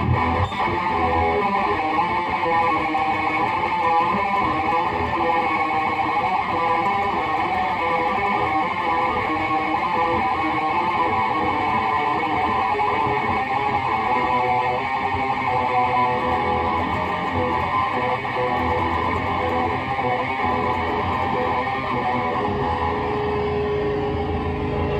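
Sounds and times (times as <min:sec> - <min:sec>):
distorted electric guitar: 0:00.0 - 0:24.9.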